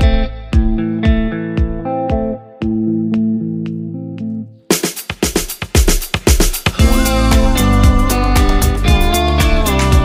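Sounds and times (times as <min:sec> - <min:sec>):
instrumental music with steady beat: 0:00.0 - 0:10.0.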